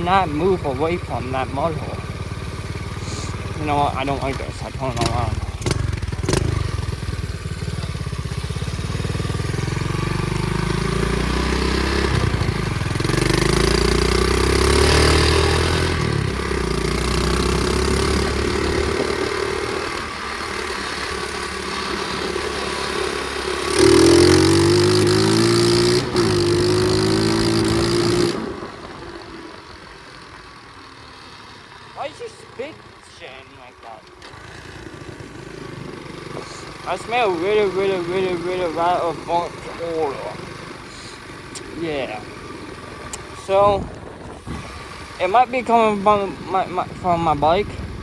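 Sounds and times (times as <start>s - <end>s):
pit bike engine revving: 0.0s - 48.0s.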